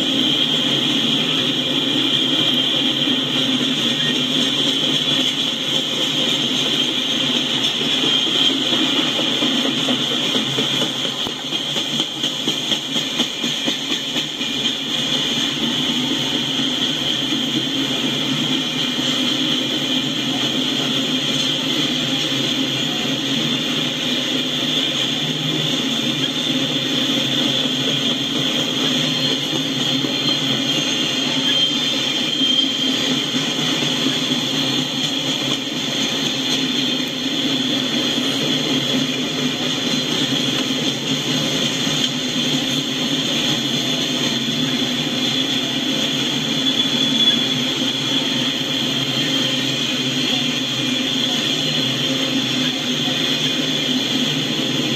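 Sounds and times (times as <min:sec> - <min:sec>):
steel train wheels on rails: 0:00.0 - 0:54.9.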